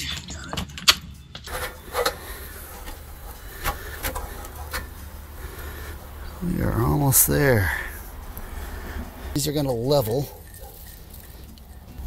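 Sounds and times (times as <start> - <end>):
rubbing and scraping: 1.5 - 12.0.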